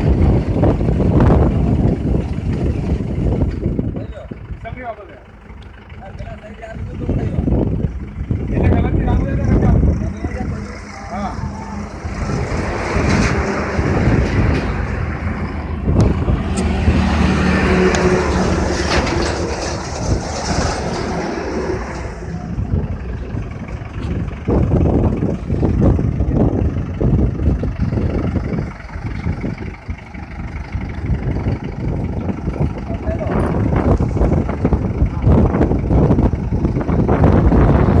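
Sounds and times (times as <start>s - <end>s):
tractor engine running under load: 0.0s - 38.0s.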